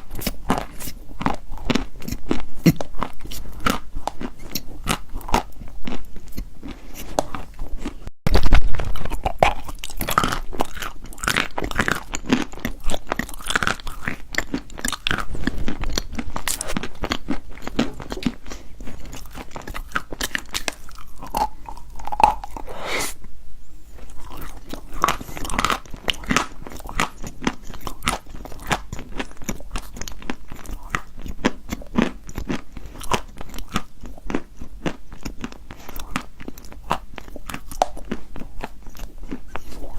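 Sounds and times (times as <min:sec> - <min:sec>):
chalk being chewed: 0:00.0 - 0:08.0, 0:09.3 - 0:23.2, 0:24.0 - 0:39.9.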